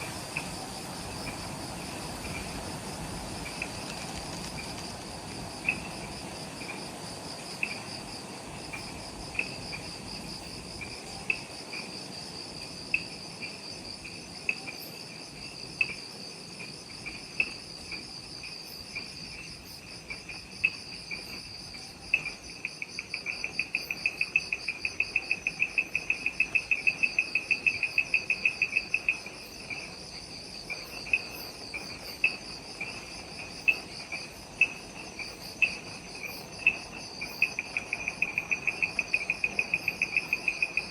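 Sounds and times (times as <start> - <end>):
insect chirping: 0.0 - 40.9
pulsing high insect trill: 5.4 - 40.9.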